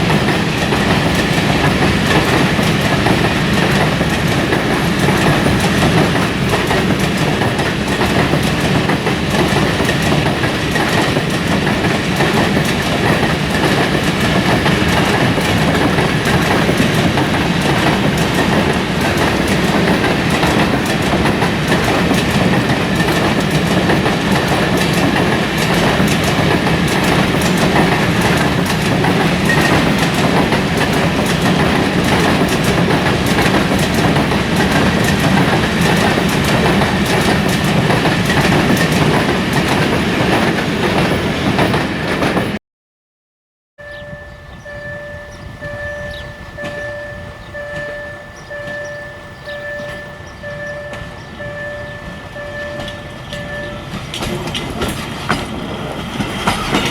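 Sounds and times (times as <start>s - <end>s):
train wheels clicking on rails: 0.0s - 42.6s, 43.9s - 56.9s.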